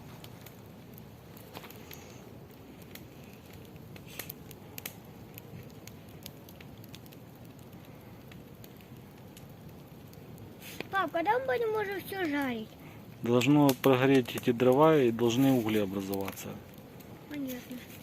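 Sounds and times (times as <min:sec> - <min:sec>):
campfire crackling and popping: 0:00.0 - 0:18.0
low hiss of burning: 0:00.0 - 0:18.0.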